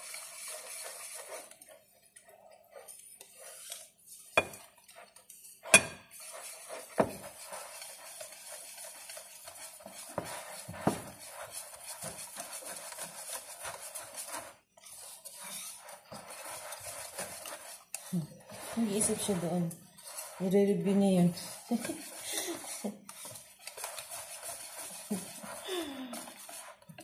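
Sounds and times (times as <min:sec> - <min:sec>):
utensil scraping a glass bowl: 0:00.0 - 0:26.9.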